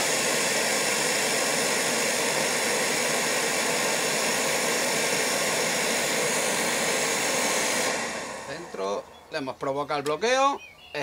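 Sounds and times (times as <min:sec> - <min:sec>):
oil burner rushing with faint hum: 0:00.0 - 0:10.2.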